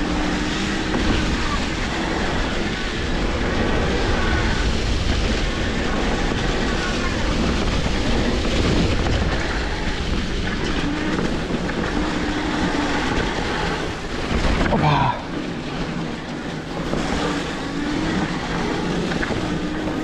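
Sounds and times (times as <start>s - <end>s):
bike rattling over trail: 0.0s - 20.0s
tyres rolling on ground: 0.0s - 20.0s
wind on microphone: 0.0s - 20.0s.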